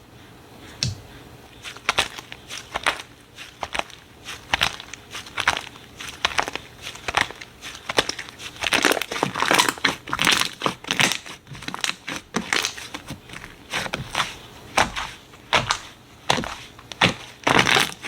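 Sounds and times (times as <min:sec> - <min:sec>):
slime crackling and popping: 0:01.8 - 0:18.0.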